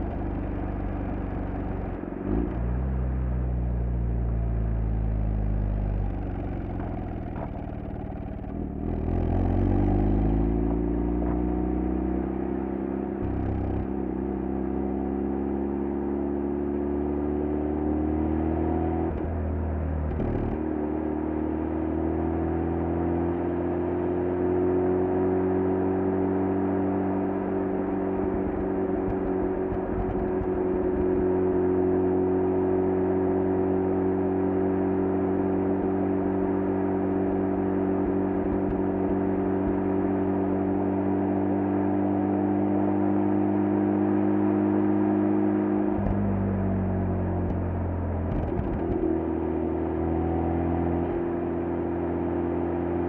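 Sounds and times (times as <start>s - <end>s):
rotary engine exhaust accelerating: 0.0s - 53.0s.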